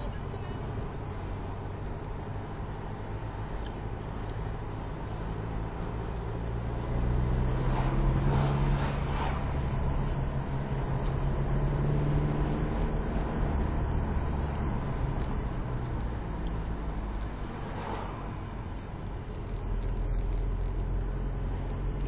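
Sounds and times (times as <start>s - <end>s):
car engine hum: 0.0s - 22.0s
road noise inside car: 0.0s - 22.0s.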